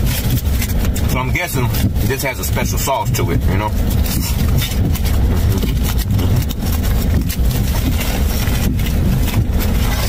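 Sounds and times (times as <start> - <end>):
car engine idling: 0.0 - 10.0
food wrapping crinkling: 0.0 - 10.0.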